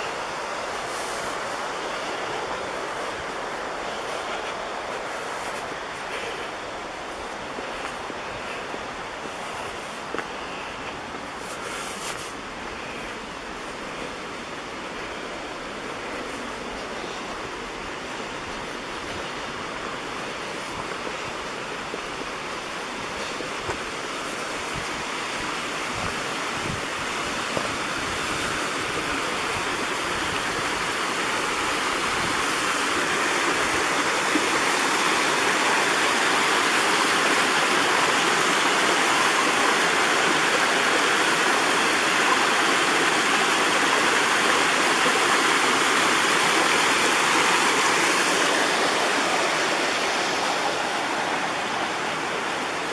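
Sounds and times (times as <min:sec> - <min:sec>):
creek cascading over rocks: 0:00.0 - 0:52.9.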